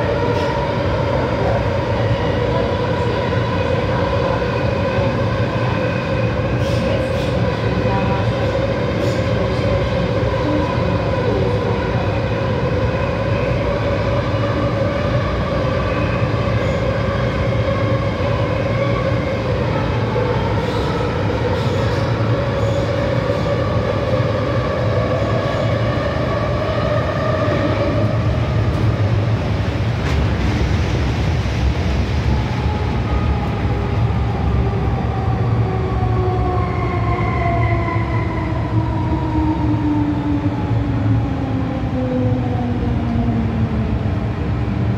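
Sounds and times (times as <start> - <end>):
train wheel and track rumble: 0.0 - 44.9.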